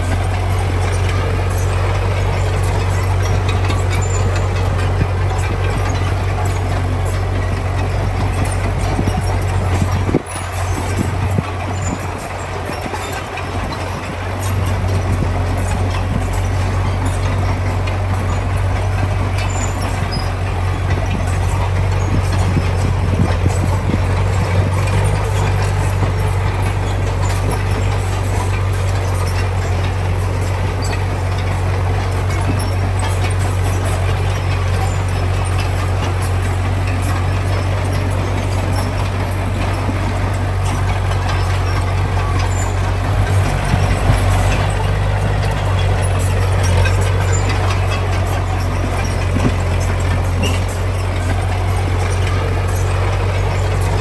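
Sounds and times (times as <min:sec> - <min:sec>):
diesel machinery engine drone: 0:00.0 - 0:54.0
rough mechanical clatter: 0:00.0 - 0:54.0.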